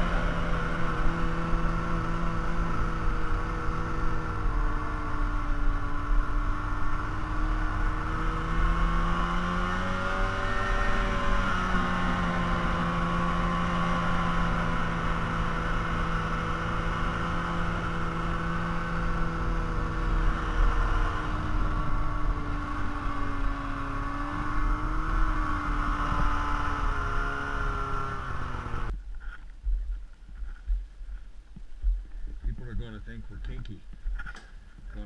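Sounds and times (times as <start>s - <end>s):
snowmobile engine running: 0.0s - 28.9s.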